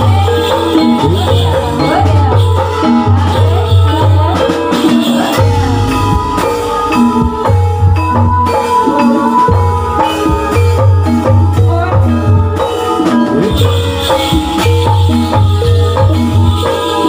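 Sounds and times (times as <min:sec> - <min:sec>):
ankle bells jingling: 0:00.0 - 0:17.0
metallophone notes: 0:00.0 - 0:17.0
steady low drum beat: 0:00.0 - 0:17.0.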